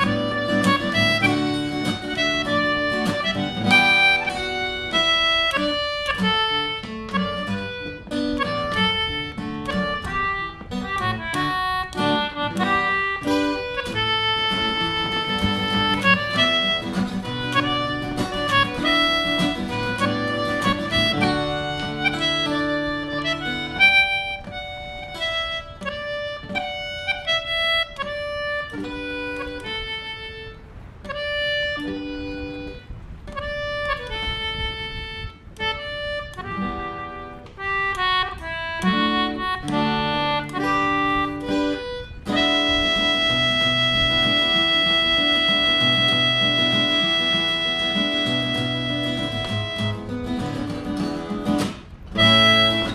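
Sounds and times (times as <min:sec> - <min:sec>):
acoustic guitars plucked and strummed: 0:00.0 - 0:52.9
concertina melody: 0:00.0 - 0:52.9.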